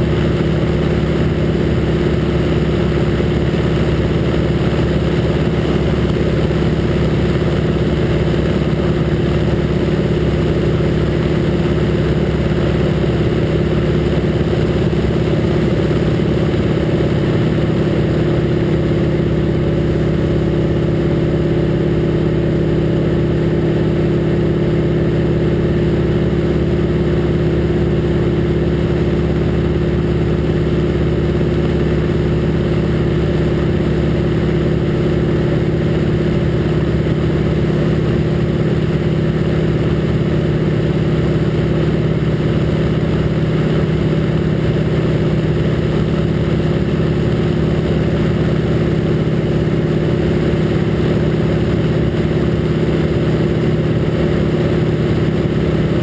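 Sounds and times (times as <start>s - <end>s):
aircraft engine and propeller drone: 0.0s - 56.0s.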